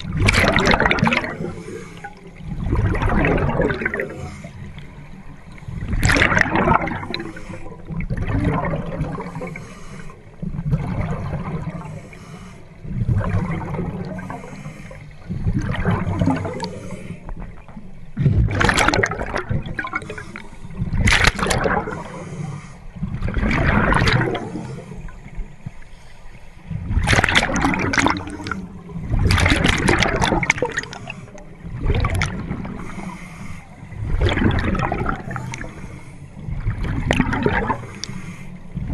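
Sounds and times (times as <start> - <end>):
bubbling exhaled air underwater: 0.0 - 4.5, 5.7 - 9.7, 10.4 - 12.1, 12.8 - 14.6, 15.2 - 22.4, 23.0 - 25.4, 26.7 - 33.3, 33.9 - 35.8, 36.4 - 38.9
low rumble of water: 0.0 - 38.9.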